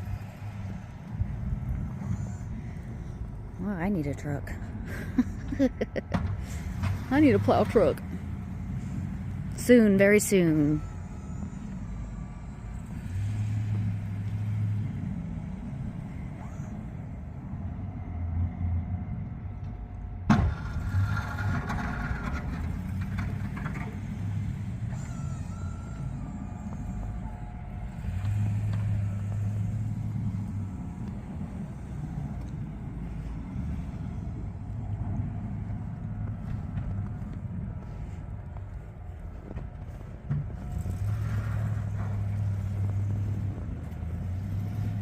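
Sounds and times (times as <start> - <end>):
truck engine rumbling: 0.0 - 45.0.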